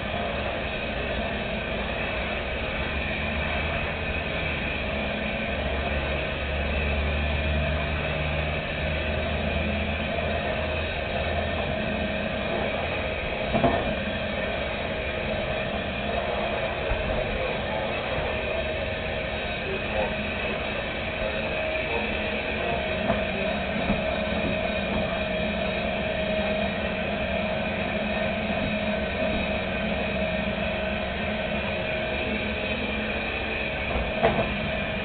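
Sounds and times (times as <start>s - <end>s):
mechanical motor drone: 0.0s - 35.0s.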